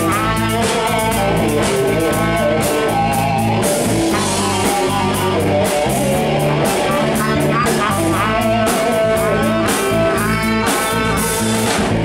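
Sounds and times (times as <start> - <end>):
drums with cymbal beat: 0.0 - 12.0
electric guitar: 0.0 - 12.0.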